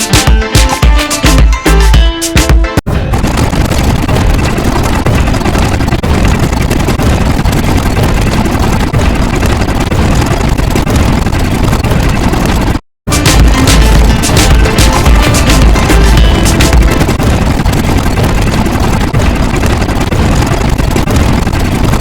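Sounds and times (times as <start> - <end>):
dense engine-like rumbling: 2.9 - 22.0.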